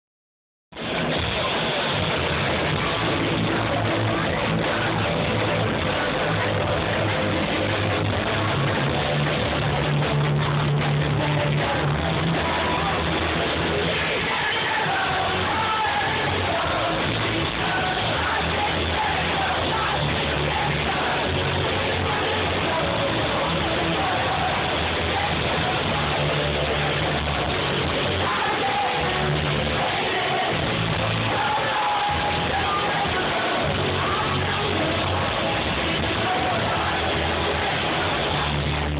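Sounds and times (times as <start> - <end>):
bass guitar: 0.7 - 38.9
drums: 0.7 - 38.9
electric guitar: 0.7 - 38.9
person singing: 1.0 - 38.9.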